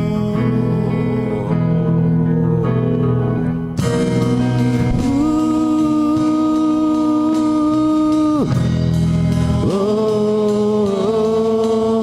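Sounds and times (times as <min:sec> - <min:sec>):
sustained guitar chords: 0:00.0 - 0:10.8
live band playing slow song: 0:00.0 - 0:12.0.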